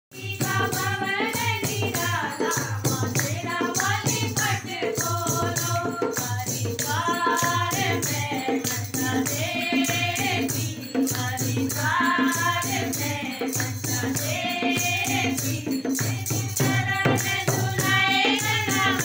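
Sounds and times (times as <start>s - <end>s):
women singing devotional song: 0.1s - 19.0s
hand drum beat: 0.2s - 19.0s.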